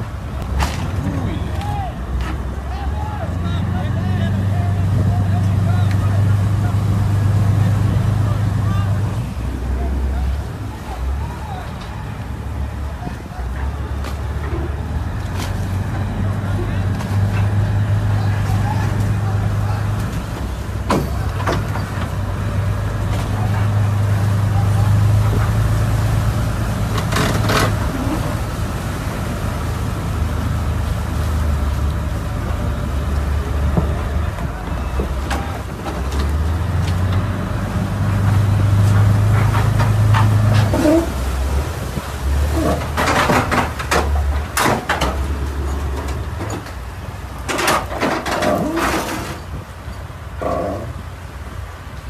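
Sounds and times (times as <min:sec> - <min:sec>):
boat engines droning: 0:00.0 - 0:52.0
propellers churning water: 0:00.0 - 0:52.0.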